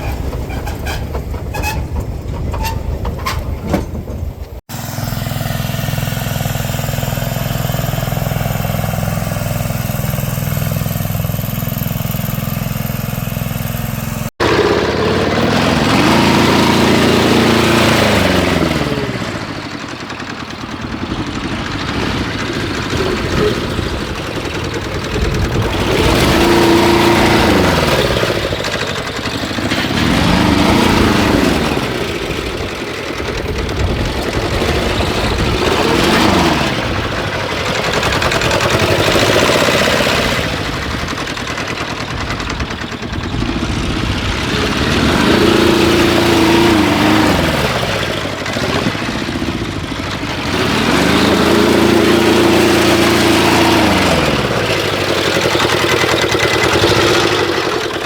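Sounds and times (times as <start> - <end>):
engine revving: 4.7 - 58.0.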